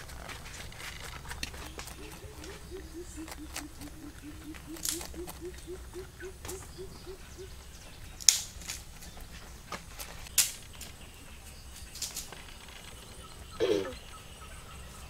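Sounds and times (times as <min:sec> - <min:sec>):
rabbits crunching cabbage: 0:00.0 - 0:13.4.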